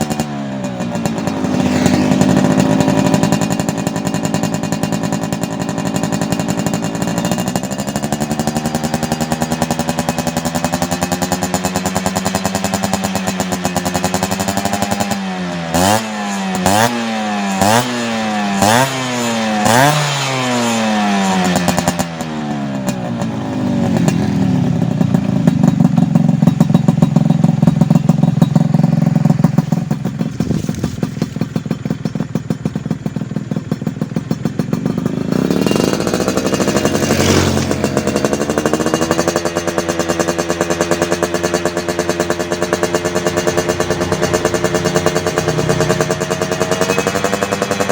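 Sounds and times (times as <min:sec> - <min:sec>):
two-stroke motorcycle engine revving: 0:00.0 - 0:47.9.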